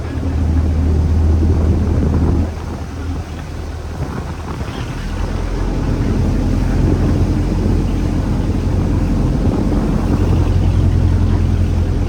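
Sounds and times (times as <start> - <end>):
boat engine running: 0.0 - 12.0
sea noise: 0.0 - 12.0
wind buffeting microphone: 0.0 - 12.0.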